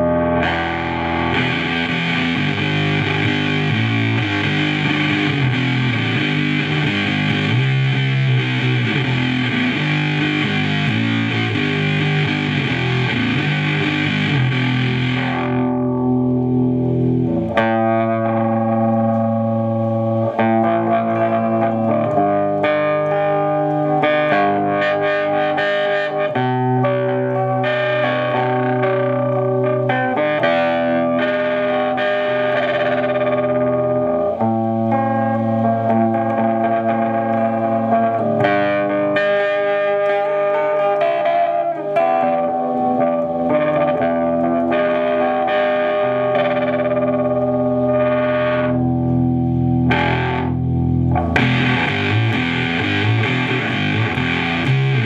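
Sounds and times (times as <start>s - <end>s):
clean electric guitar notes: 0.0s - 55.0s
fuzzed electric guitar: 0.0s - 55.0s.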